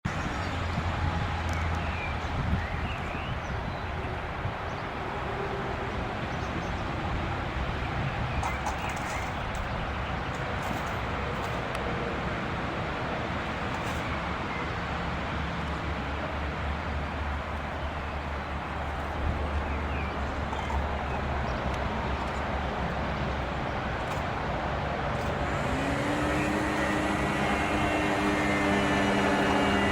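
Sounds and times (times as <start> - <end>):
distant jet engines rumbling: 0.1 - 29.9.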